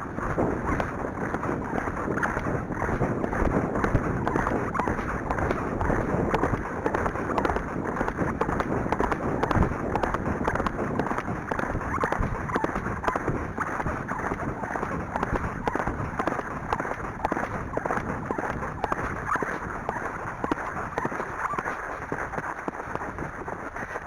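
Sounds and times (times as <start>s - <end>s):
wind buffeting microphone: 0.0s - 24.0s
horse hoofbeats: 0.1s - 24.0s.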